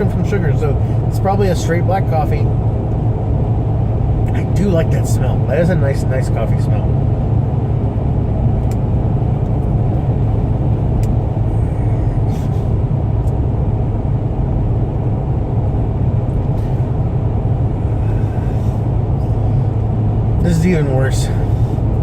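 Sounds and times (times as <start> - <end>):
car cabin engine and road rumble: 0.0 - 22.0.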